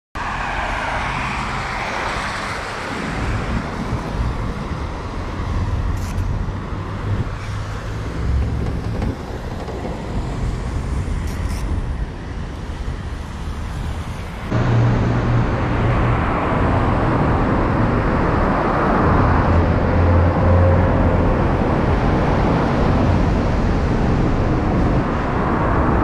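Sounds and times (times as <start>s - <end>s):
road traffic rumble: 0.2s - 26.0s.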